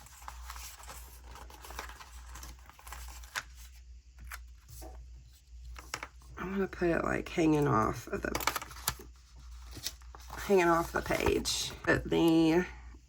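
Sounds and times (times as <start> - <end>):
paper sticker sheet rustling: 0.0 - 6.3, 8.2 - 12.4.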